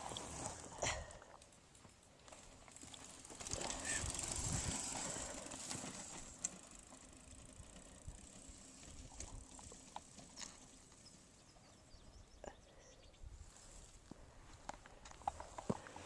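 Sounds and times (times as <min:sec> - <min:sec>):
bicycle clicks and rattles: 0:00.0 - 0:11.5, 0:14.6 - 0:16.0.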